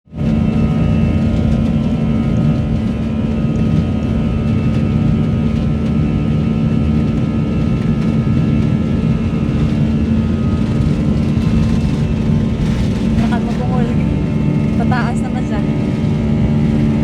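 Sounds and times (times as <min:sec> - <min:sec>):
airplane engines droning: 0:00.1 - 0:17.0.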